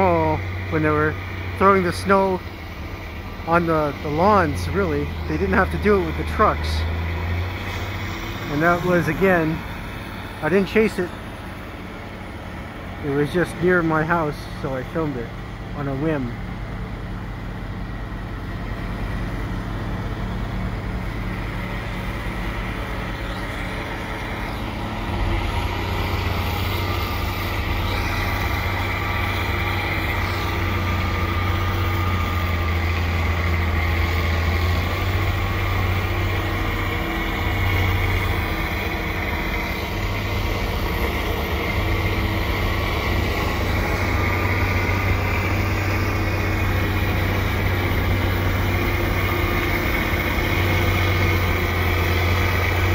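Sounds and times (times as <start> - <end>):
heavy engines running: 0.0 - 52.9.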